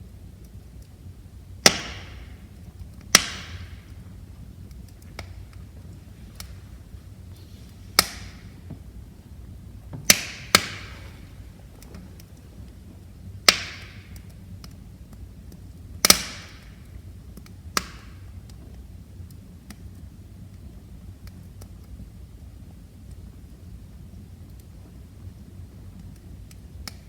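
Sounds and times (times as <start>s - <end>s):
faint ticks of fire: 0.0s - 27.0s
low rumble of flames: 0.0s - 27.0s
wood fire popping: 0.0s - 27.0s.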